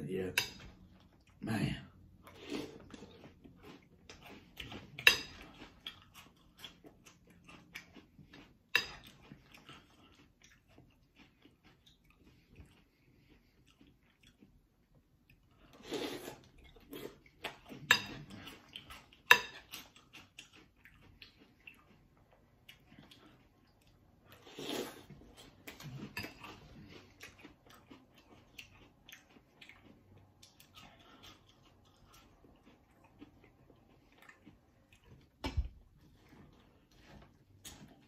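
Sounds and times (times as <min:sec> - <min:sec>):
crunchy chewing: 0:02.2 - 0:38.0.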